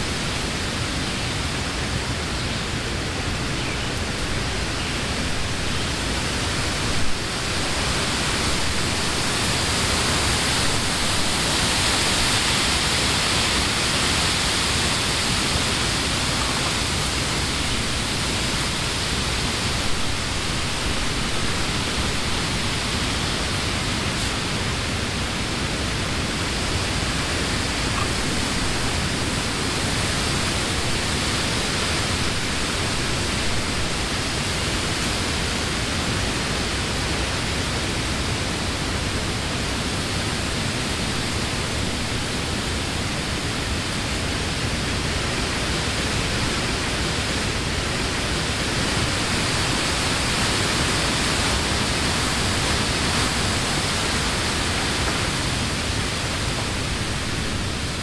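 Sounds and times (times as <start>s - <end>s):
wind rushing through leaves: 0.0s - 58.0s.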